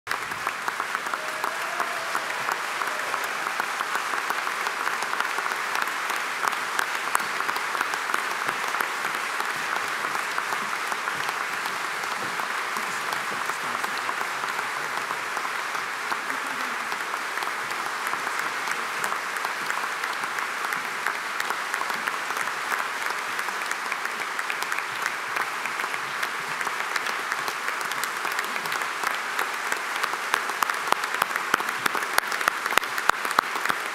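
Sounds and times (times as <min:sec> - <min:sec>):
crowd applauding: 0:00.1 - 0:33.9.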